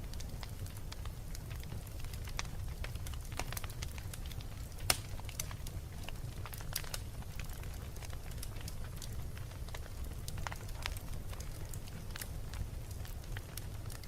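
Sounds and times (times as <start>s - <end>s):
wood fire crackling in fireplace: 0.0s - 14.0s.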